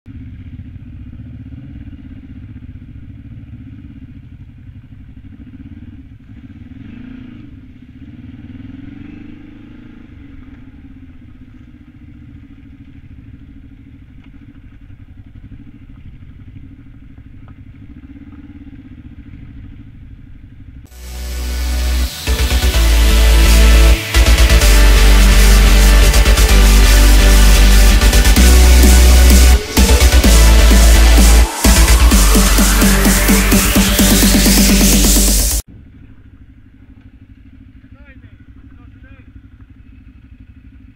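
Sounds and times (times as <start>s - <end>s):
motorcycle engine running: 0.1s - 40.9s.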